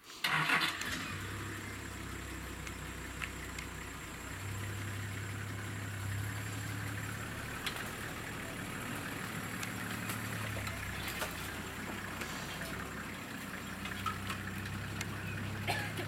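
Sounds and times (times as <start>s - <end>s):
vehicle engine idling: 0.2s - 16.0s.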